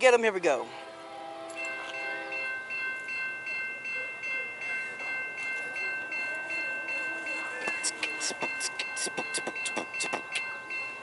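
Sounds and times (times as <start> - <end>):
crossing bell ringing: 0.0 - 11.0.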